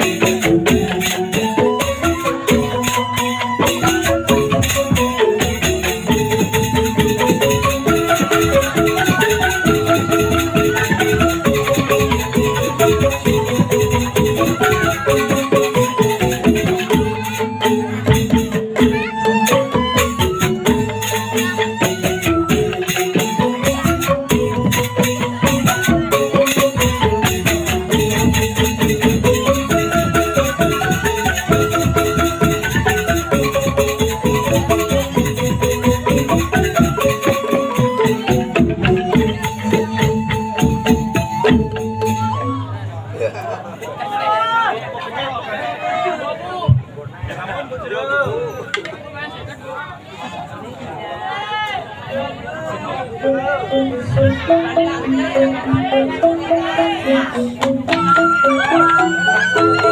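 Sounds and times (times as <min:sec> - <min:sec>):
fast percussive beat: 0:00.0 - 0:42.9, 0:52.2 - 0:59.9.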